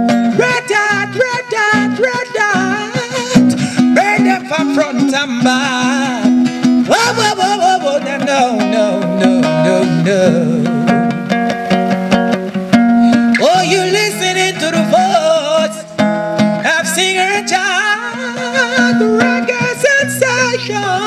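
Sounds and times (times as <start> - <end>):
acoustic guitar strumming: 0.0 - 21.0
man singing wordless runs: 0.2 - 10.9, 13.2 - 21.0.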